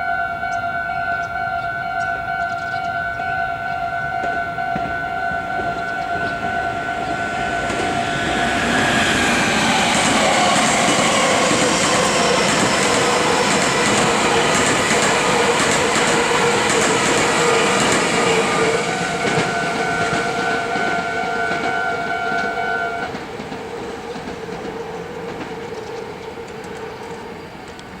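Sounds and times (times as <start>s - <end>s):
crossing warning bell: 0.0s - 23.2s
train passing: 0.0s - 28.0s
wheels clacking over rail joints: 4.1s - 28.0s.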